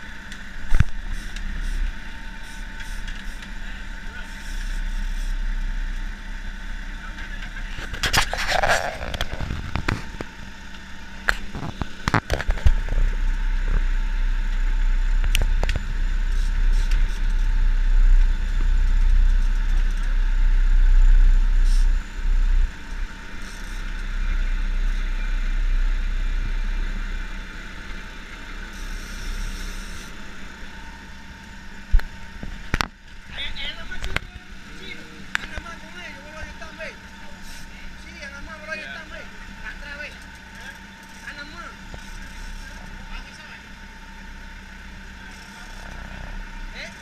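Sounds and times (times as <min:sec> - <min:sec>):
boat engine rumbling: 0:00.0 - 0:47.0.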